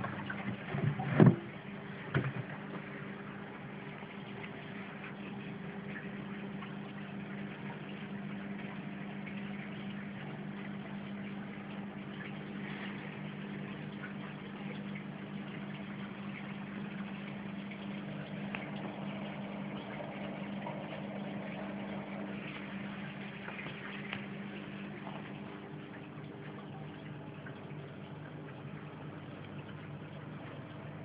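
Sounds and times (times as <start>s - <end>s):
electric pump hum: 0.0s - 31.0s
trickling water: 0.0s - 31.0s.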